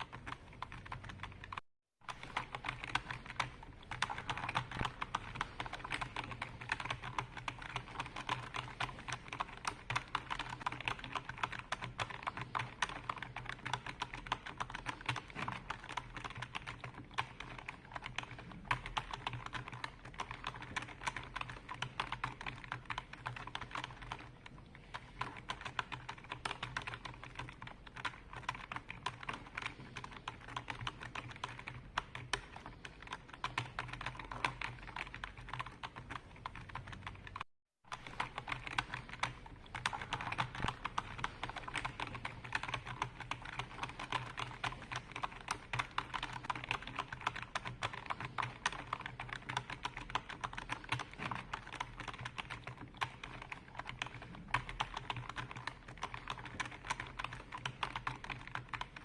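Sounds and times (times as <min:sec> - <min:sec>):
fast typing on keyboard: 0:00.0 - 0:59.0.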